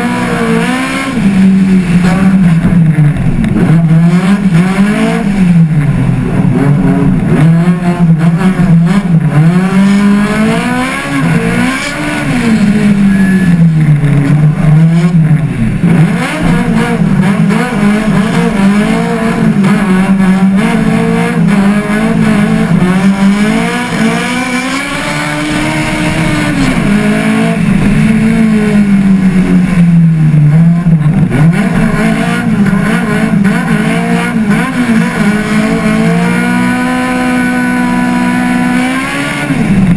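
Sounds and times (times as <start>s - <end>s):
racing car engine at full load: 0.0s - 39.9s.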